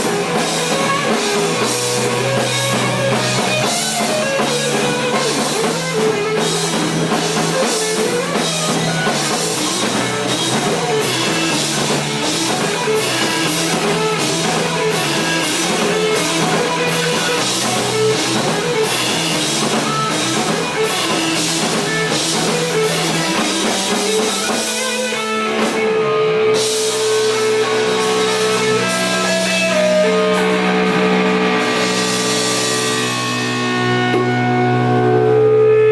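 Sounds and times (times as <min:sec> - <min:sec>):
band holding ringing chords: 0:00.0 - 0:35.9
drum kit beat: 0:00.0 - 0:35.9
electric guitar: 0:00.0 - 0:35.9.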